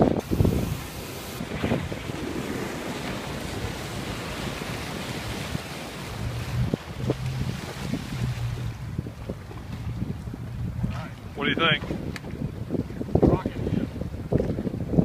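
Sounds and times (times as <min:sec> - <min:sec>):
outboard motor humming: 0:00.0 - 0:14.8
rushing water: 0:00.0 - 0:15.0
wind on microphone: 0:00.0 - 0:15.0.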